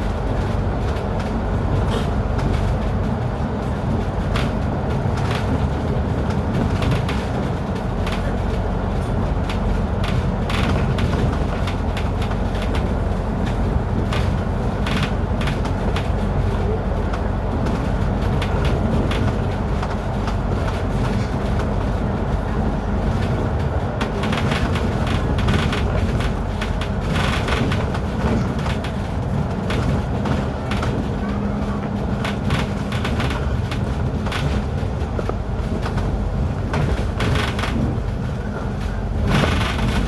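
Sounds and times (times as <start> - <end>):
vehicle rumble: 0.0 - 40.0.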